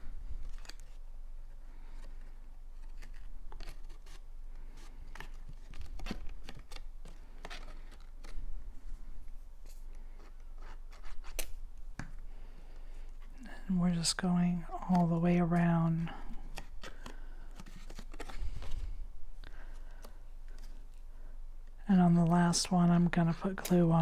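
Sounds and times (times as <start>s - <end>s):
paper rustling: 0.0s - 14.0s, 14.6s - 21.0s.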